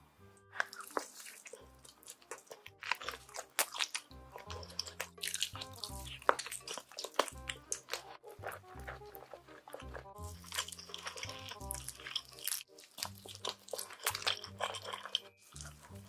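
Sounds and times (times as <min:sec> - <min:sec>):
background music: 0:00.0 - 0:16.0
crunchy food chewing: 0:00.4 - 0:16.0.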